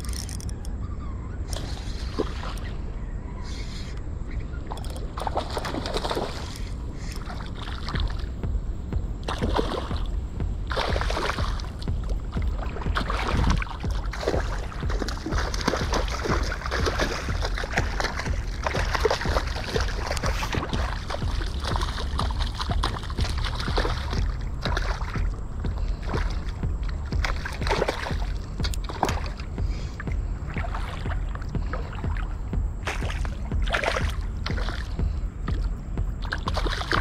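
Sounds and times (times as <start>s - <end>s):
steady low rumble: 0.0s - 37.0s
fish splashing in water: 4.9s - 8.3s, 9.3s - 10.1s, 10.7s - 37.0s.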